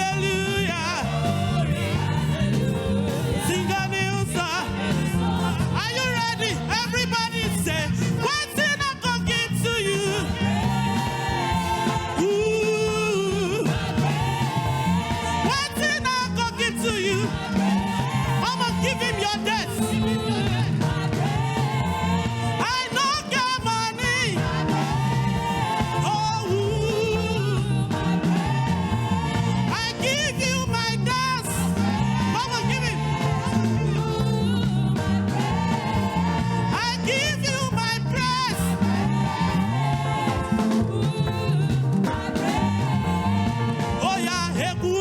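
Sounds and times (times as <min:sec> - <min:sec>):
band accompaniment with bass line: 0:00.0 - 0:45.0
voices singing: 0:00.0 - 0:45.0.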